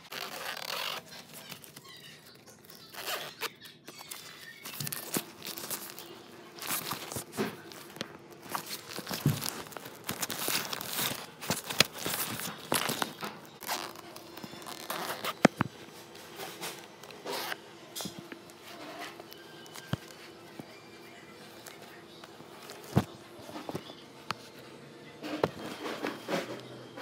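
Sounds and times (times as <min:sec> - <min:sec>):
backpack fabric rustling: 0:00.0 - 0:02.1, 0:02.9 - 0:03.4, 0:04.6 - 0:20.7, 0:21.4 - 0:24.5.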